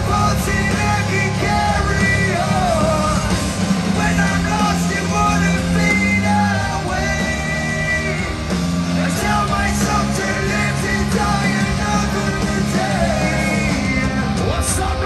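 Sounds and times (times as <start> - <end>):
drums with cymbal splashes: 0.0 - 15.0
electric guitars and bass: 0.0 - 15.0
lead vocal singing: 0.0 - 15.0.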